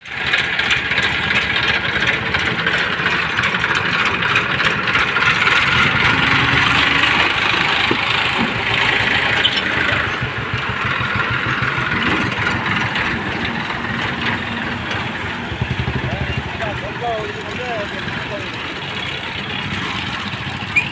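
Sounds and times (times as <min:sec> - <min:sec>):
vehicle engines running: 0:00.0 - 0:20.9.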